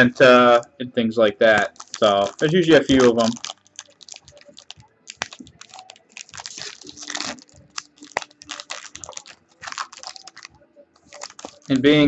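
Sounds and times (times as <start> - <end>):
card pack wrapper crinkling: 1.4 - 12.0.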